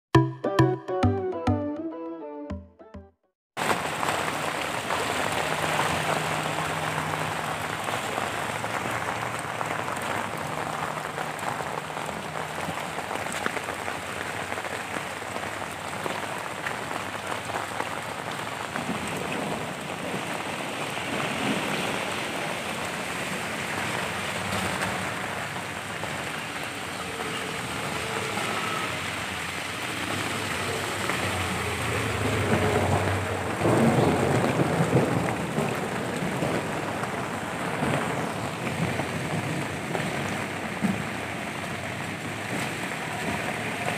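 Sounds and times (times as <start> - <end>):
runoff water flowing: 3.6 - 43.9
steady rain: 3.6 - 43.9.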